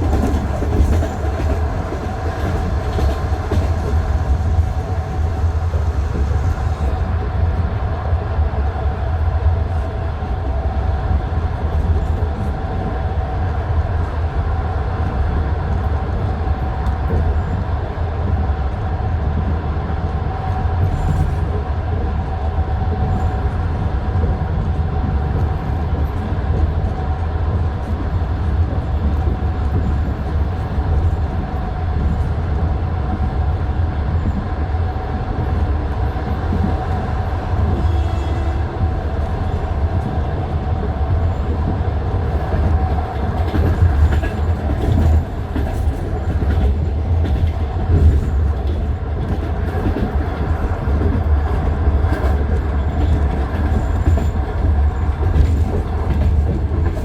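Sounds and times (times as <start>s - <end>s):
train rumble on track: 0.0s - 57.0s.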